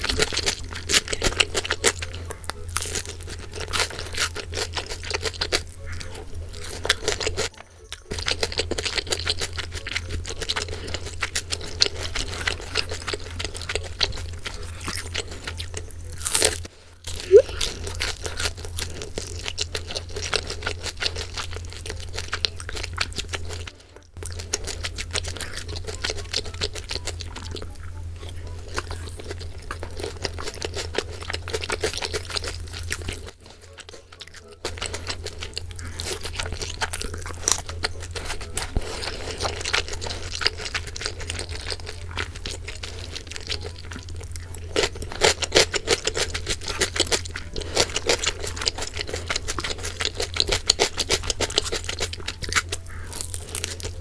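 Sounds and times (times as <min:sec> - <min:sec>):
crunching and chewing fried chicken: 0:00.0 - 0:54.0.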